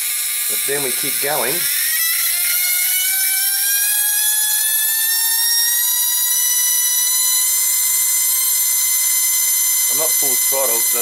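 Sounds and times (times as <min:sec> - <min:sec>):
small electric fan whining: 0:00.0 - 0:11.0.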